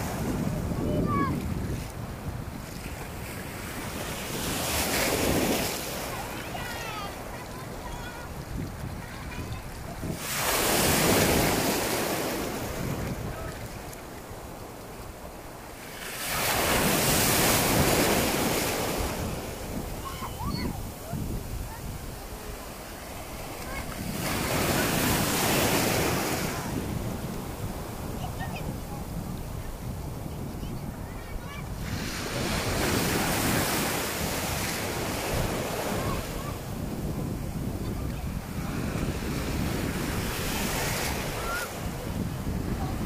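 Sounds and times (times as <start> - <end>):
wind buffeting microphone: 0.0 - 43.0
sea wave breaking: 2.6 - 14.3, 15.7 - 29.6, 31.0 - 43.0.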